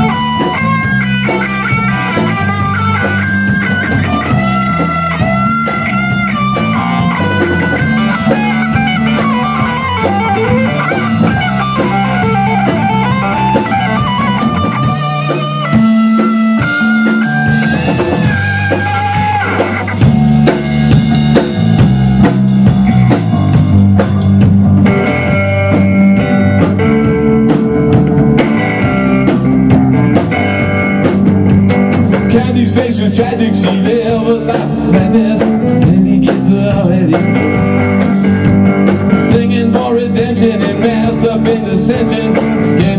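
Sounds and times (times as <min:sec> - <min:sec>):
lead electric guitar bent notes: 0:00.0 - 0:42.9
live rock band playing: 0:00.0 - 0:42.9.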